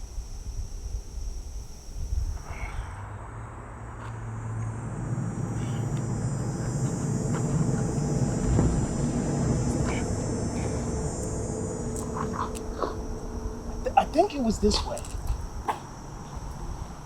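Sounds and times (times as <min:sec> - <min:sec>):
faint chirps: 0:00.0 - 0:17.0
high insect drone: 0:00.0 - 0:17.0
low rumble: 0:00.4 - 0:17.0.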